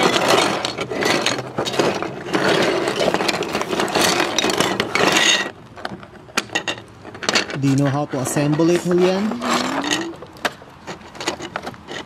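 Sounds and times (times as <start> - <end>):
plastic bricks clattering: 0.0 - 7.9, 8.5 - 12.0.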